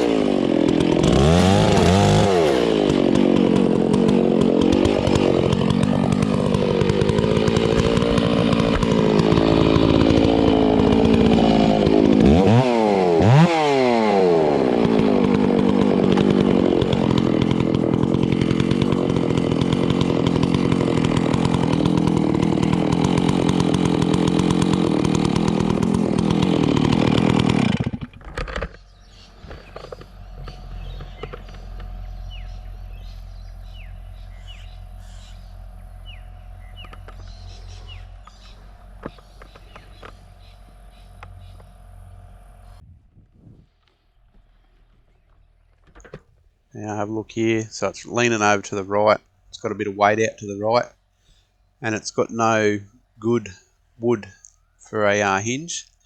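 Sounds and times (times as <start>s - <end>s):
chainsaw cutting tree trunk: 0.0s - 42.8s, 45.2s - 56.0s.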